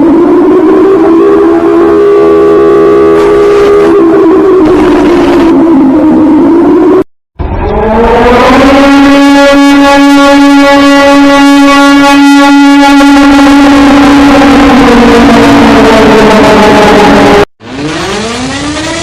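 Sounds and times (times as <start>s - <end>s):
warning siren: 0.0s - 19.0s.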